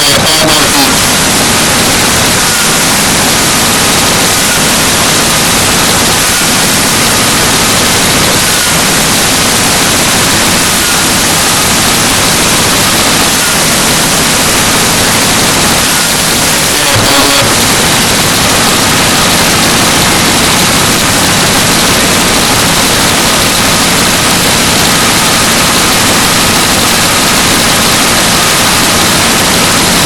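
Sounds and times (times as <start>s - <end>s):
loud static hiss: 0.0s - 30.0s.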